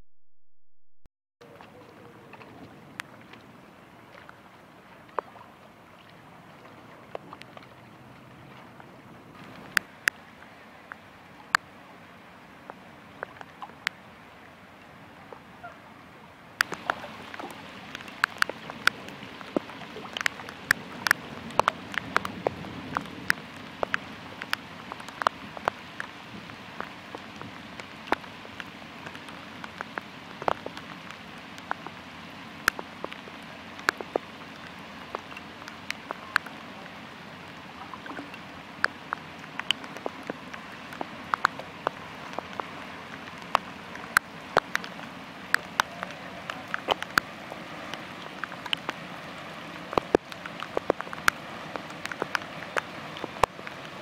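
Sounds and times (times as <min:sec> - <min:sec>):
raindrops hitting close: 0:01.4 - 0:54.0
steady rain falling: 0:01.4 - 0:54.0.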